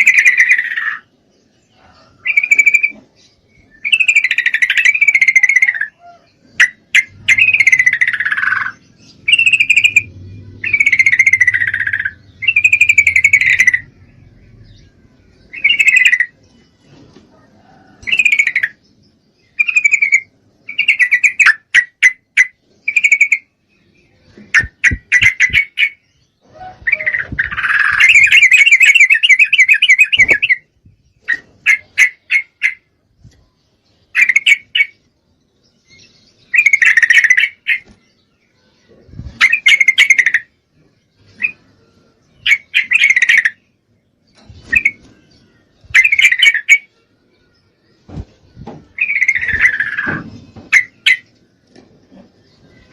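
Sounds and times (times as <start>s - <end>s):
bulbul calling: 1.8s - 16.6s, 17.4s - 23.6s, 24.4s - 32.9s, 34.1s - 35.1s, 36.0s - 38.0s, 39.3s - 40.6s, 42.4s - 47.0s, 48.6s - 52.9s.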